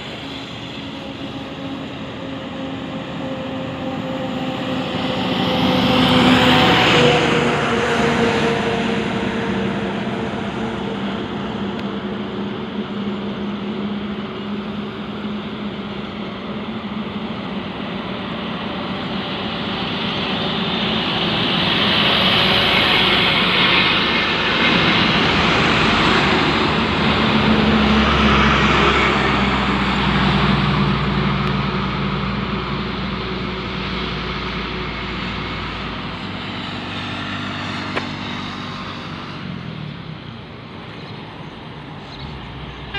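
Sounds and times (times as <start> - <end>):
heavy vehicle passing by: 0.0 - 42.9
highway traffic: 0.0 - 42.9.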